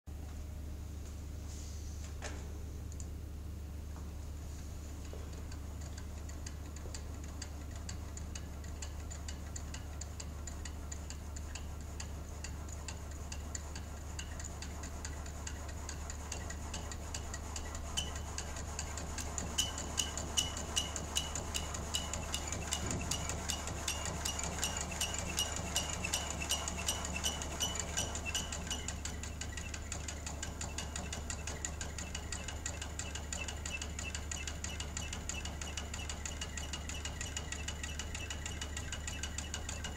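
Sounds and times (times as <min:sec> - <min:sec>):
motor hum: 0:01.9 - 0:39.9
rhythmic mechanical ticking: 0:04.4 - 0:39.9.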